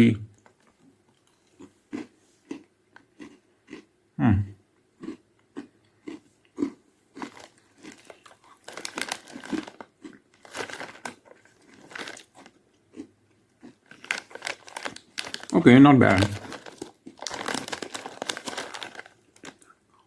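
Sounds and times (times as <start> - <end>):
person chewing crunchy cereal: 1.1 - 3.9, 5.0 - 20.0.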